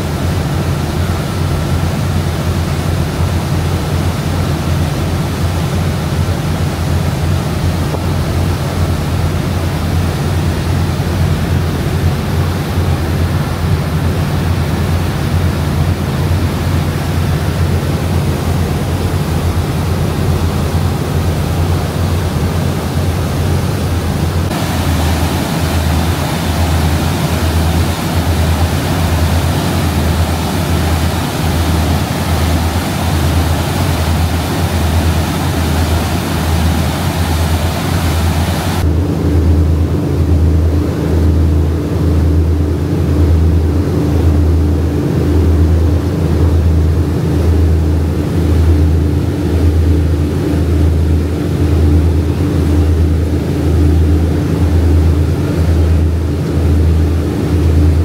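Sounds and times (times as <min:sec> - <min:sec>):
ferry engine drone: 0:00.0 - 0:58.0
pulsing low hum: 0:00.0 - 0:58.0
rushing wake water: 0:00.0 - 0:58.0.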